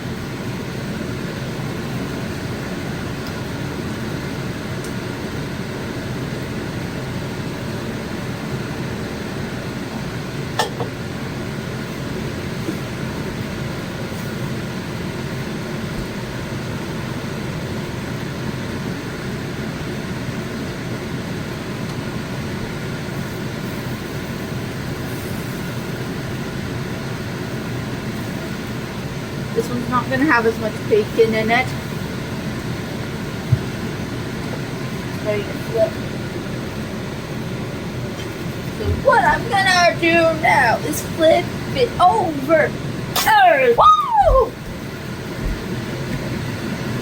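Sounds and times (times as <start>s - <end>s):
mechanical hum and whoosh: 0.0s - 47.0s.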